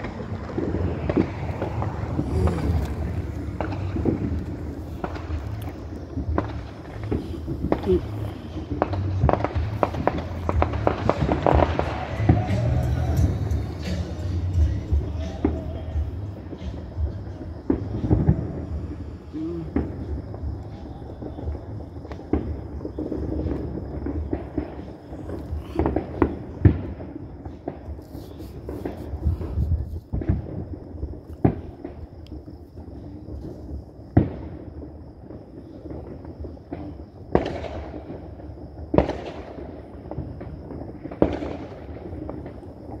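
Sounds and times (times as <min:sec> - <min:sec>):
fireworks bangs with echoes: 0:00.0 - 0:43.0.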